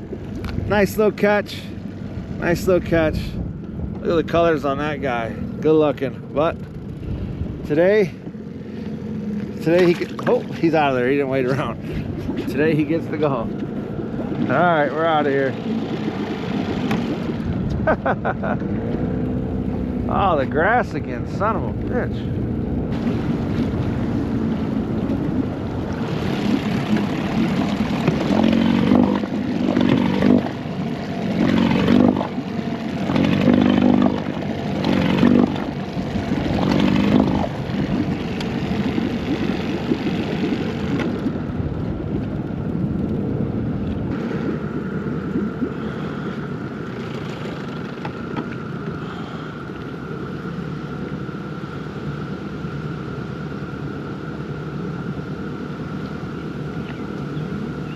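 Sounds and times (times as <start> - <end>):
boat motor running: 0.0 - 57.9.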